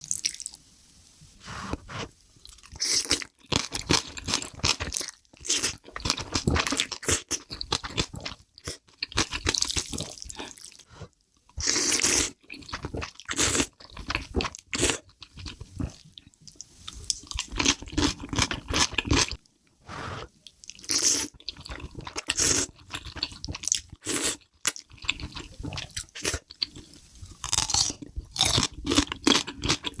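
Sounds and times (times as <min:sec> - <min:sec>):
close chewing and crunching: 0:02.4 - 0:10.9, 0:11.5 - 0:19.4, 0:20.4 - 0:30.0.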